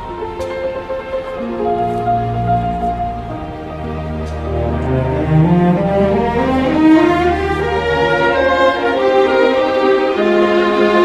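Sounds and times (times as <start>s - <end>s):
double basses bowing low: 0.0s - 11.0s
orchestral strings sustained notes: 0.0s - 11.0s.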